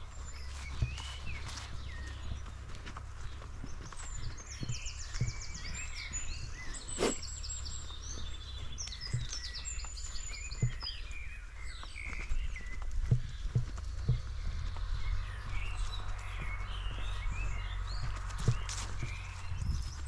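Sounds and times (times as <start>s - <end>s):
footsteps on forest floor: 0.0s - 20.0s
small birds twittering: 0.0s - 20.0s.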